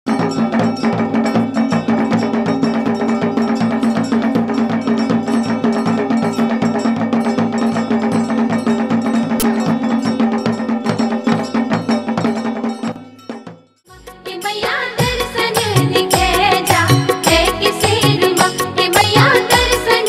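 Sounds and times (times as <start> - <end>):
drum beat with ringing tones: 0.1 - 20.0.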